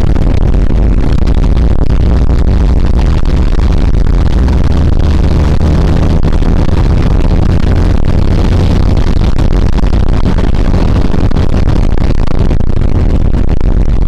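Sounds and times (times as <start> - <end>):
diesel truck engine droning: 0.0 - 13.9.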